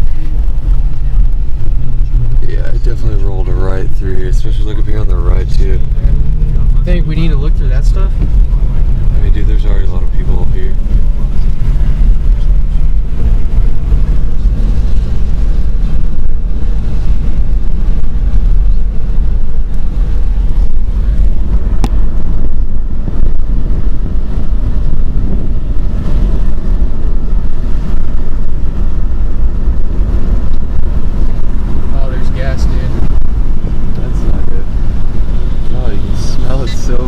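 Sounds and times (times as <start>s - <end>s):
vehicle rumbling while moving: 0.0s - 37.0s.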